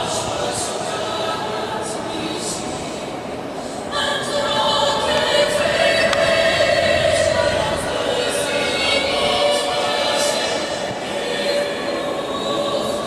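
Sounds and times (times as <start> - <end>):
crowd noise: 0.0 - 13.0
music of long held chords: 0.0 - 13.0.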